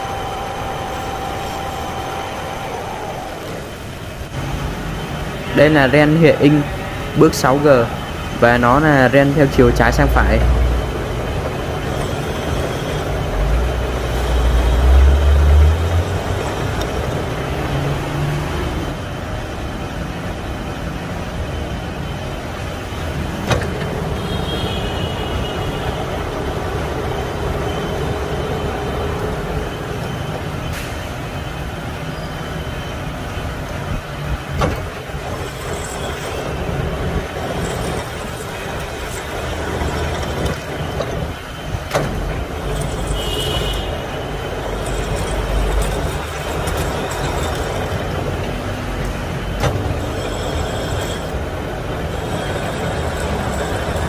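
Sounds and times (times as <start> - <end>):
metal lathe running: 0.0 - 54.0.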